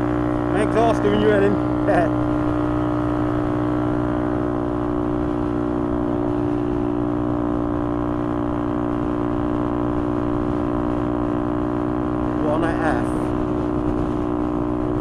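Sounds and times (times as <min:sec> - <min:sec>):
motorcycle engine cruising: 0:00.0 - 0:15.0
road noise: 0:00.0 - 0:15.0.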